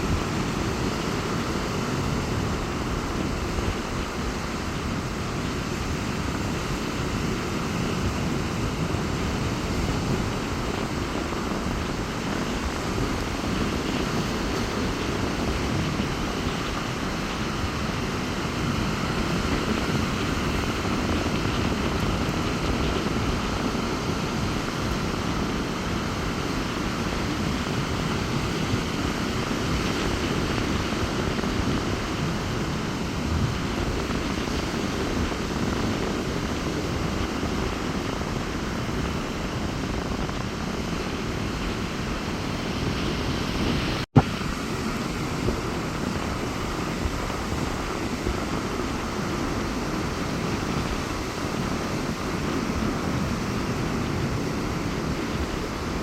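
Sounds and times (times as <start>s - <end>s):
surf breaking on beach: 0.0s - 56.0s
wind rumble on microphone: 0.0s - 56.0s.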